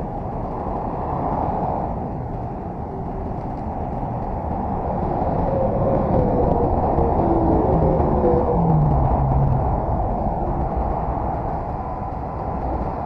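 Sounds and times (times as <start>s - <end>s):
road noise: 0.0s - 13.0s
heavy truck engine rumble: 2.0s - 13.0s.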